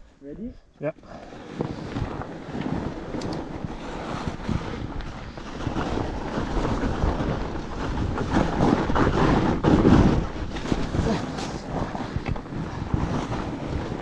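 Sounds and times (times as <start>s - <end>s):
wind rushing over microphone: 0.0s - 14.0s
bike tyres rumbling on snow: 1.0s - 14.0s.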